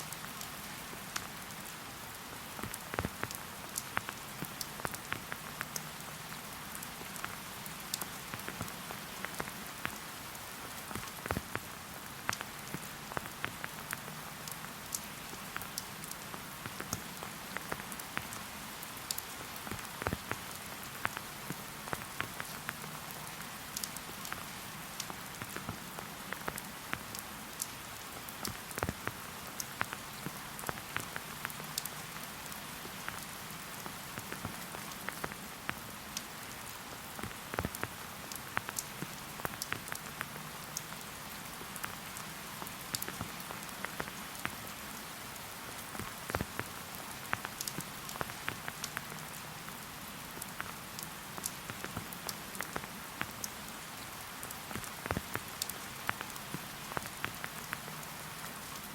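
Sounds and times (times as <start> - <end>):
raindrops tapping close by: 0.0 - 58.9
steady rain falling: 0.0 - 58.9.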